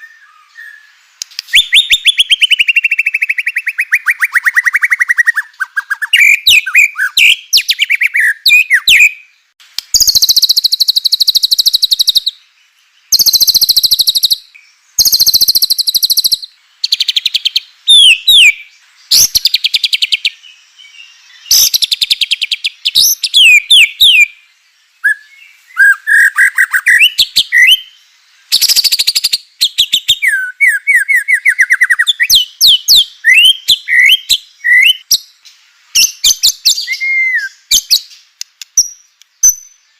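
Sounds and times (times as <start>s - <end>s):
songbird singing loudly: 0.0s - 39.9s.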